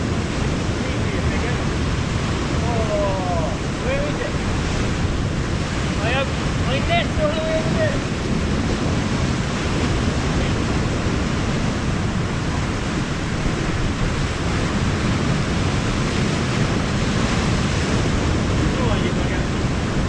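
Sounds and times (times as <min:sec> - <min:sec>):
sea surf: 0:00.0 - 0:20.0
wind: 0:00.0 - 0:20.0
wind buffeting microphone: 0:00.0 - 0:20.0.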